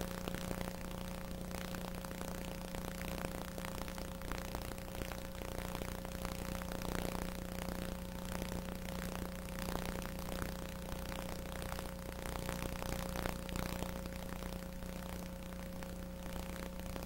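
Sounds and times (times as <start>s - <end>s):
electrical hum and hiss: 0.0s - 17.0s.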